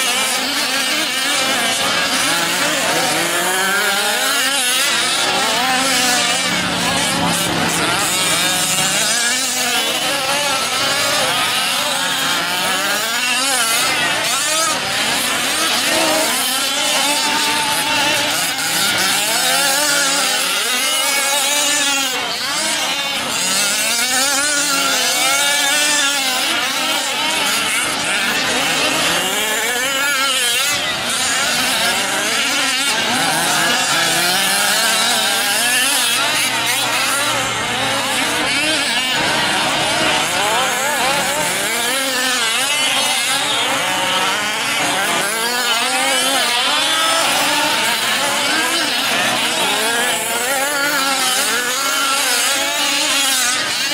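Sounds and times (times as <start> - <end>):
small two-stroke engines revving: 0.0 - 53.9.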